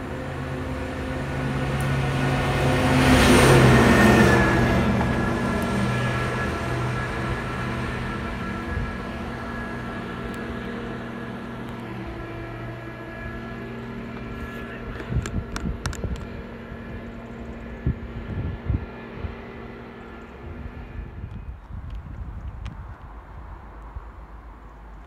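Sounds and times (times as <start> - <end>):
diesel train engine droning: 0.0 - 25.0.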